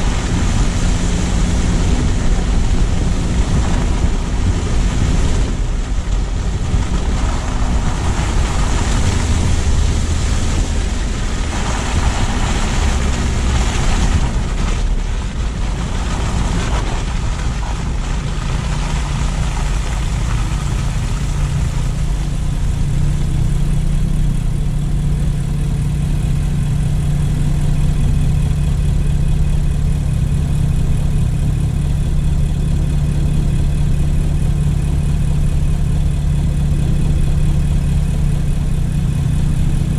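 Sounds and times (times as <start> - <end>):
car engine idling: 0.0 - 39.9
tyre and road noise: 0.0 - 39.9.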